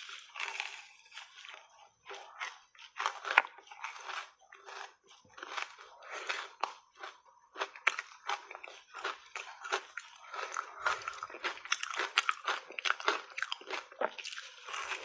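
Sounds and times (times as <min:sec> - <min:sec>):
person crunching ice: 0:00.0 - 0:01.5, 0:03.0 - 0:15.0.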